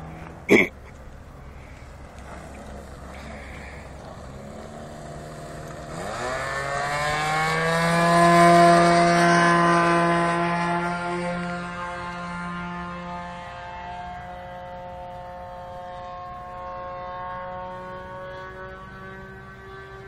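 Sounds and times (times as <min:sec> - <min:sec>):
model airplane engine whine: 0:00.0 - 0:20.0.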